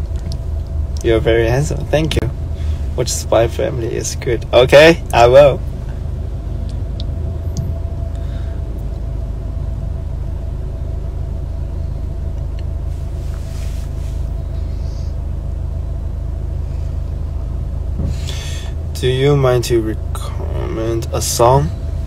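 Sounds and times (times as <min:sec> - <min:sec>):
car engine and road noise: 0:00.0 - 0:22.0
faint steady hum: 0:00.0 - 0:22.0.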